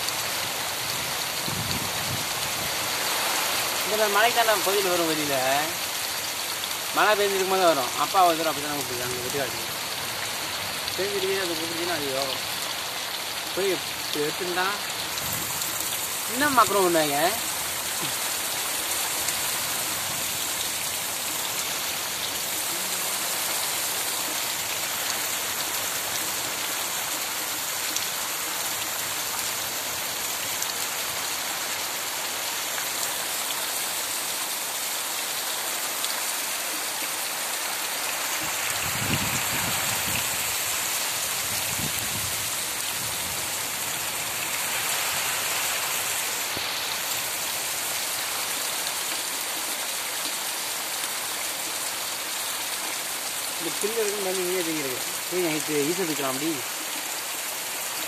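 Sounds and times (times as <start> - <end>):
heavy rain on dirt road: 0.0 - 58.0.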